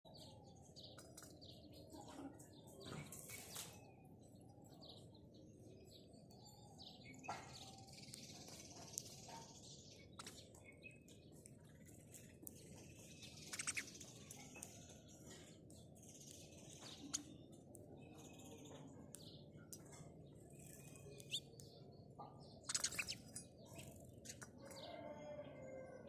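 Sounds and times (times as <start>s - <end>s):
sparrows chirping faintly: 0.1s - 26.0s.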